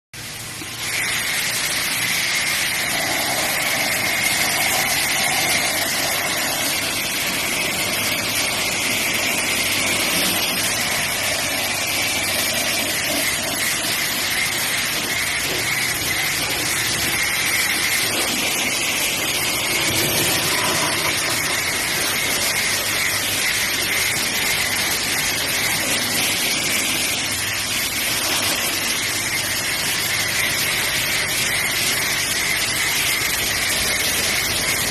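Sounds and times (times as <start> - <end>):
motor running: 0.2 - 34.9
pressure washer water jet hiss: 0.2 - 34.9.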